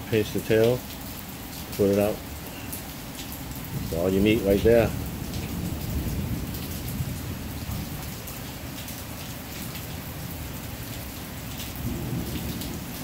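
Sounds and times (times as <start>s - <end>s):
rain on a hard surface: 0.0s - 13.0s.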